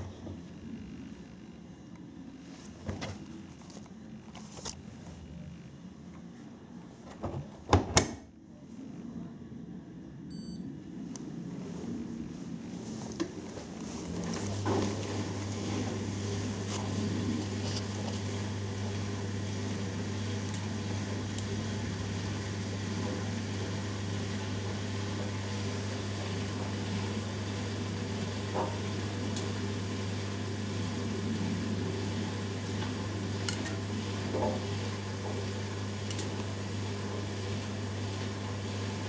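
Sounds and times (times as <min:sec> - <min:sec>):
washing machine spin hum: 0:00.0 - 0:39.0.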